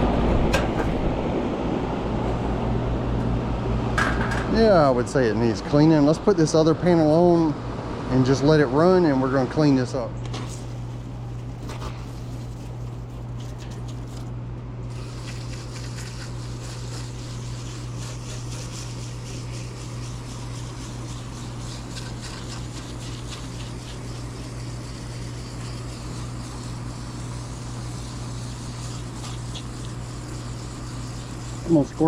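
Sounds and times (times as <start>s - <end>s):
compressor hum: 0.0s - 32.0s
fan whooshing: 0.0s - 32.0s.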